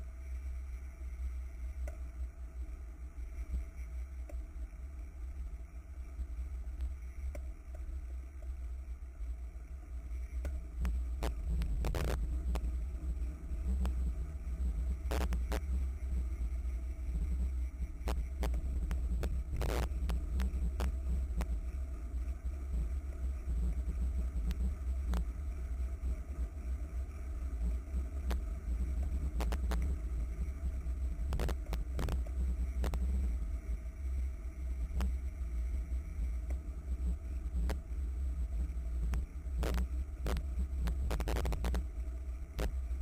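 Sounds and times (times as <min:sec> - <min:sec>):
wind and road rumble: 0:00.0 - 0:43.0.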